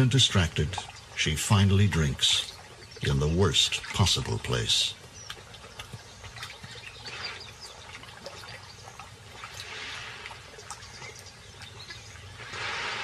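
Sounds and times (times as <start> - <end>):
animal lapping water: 0.0 - 13.0
small wet clicks: 2.0 - 12.6.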